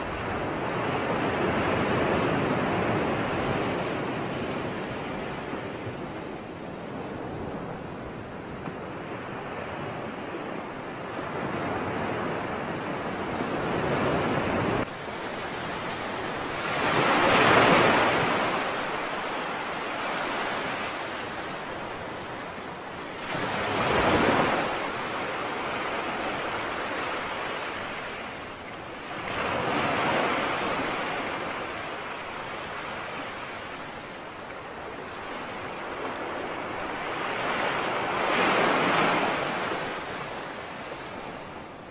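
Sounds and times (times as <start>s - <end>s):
sea waves breaking: 0.0s - 41.9s.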